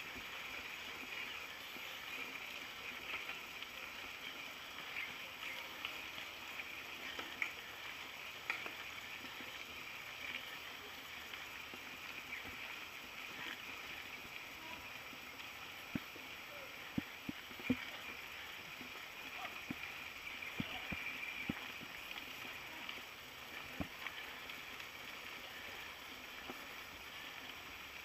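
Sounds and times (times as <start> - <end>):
bike tyres hissing on dirt: 0.0 - 28.0.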